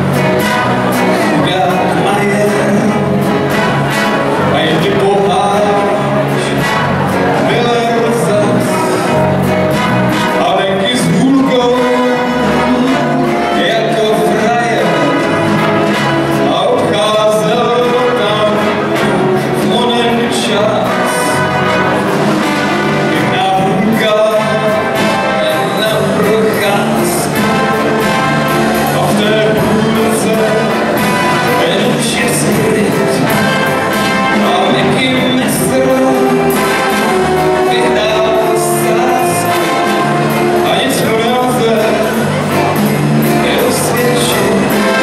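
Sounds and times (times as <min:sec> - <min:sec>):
big band playing live: 0:00.0 - 0:45.0.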